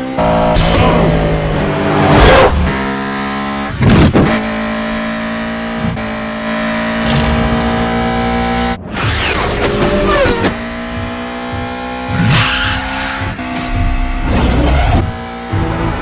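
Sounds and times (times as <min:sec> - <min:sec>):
car engine revving high: 0:00.0 - 0:16.0.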